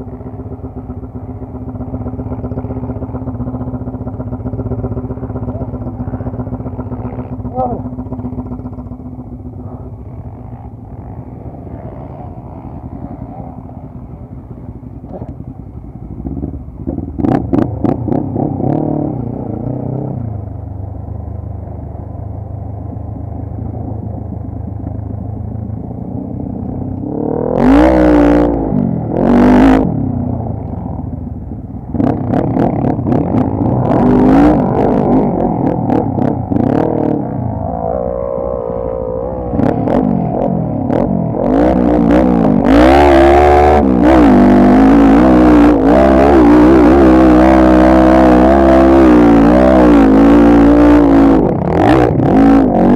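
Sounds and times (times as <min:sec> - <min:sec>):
quad bike engines revving: 0:00.0 - 0:52.9.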